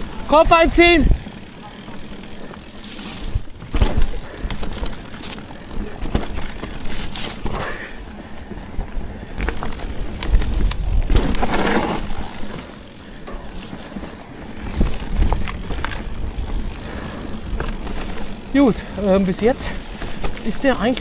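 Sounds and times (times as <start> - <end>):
bike knocks and rattles: 0.0 - 21.0
tyres rolling over dirt: 0.0 - 21.0.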